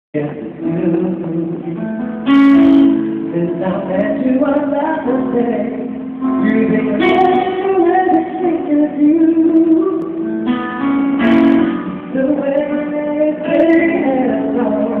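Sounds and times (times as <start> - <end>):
man singing a slow ballad: 0.2 - 10.6, 11.6 - 15.0
guitar: 0.2 - 15.0.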